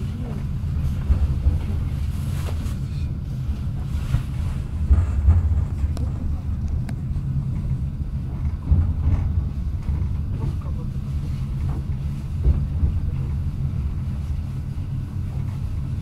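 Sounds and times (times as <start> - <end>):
train carriage rumbling: 0.0 - 16.0.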